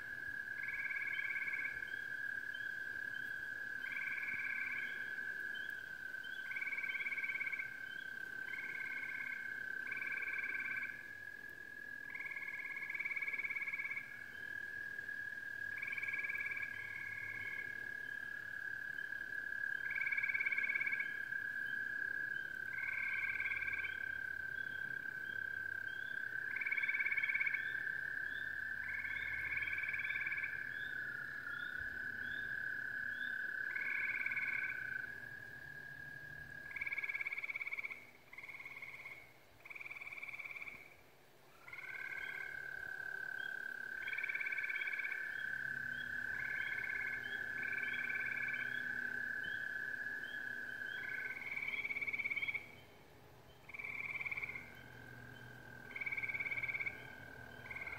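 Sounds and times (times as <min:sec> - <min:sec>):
frogs trilling: 0:00.0 - 0:57.9.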